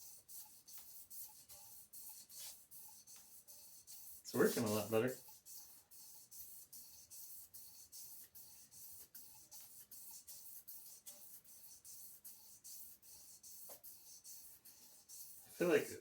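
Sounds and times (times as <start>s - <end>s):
cloth strip rasping on metal: 0.0s - 15.6s.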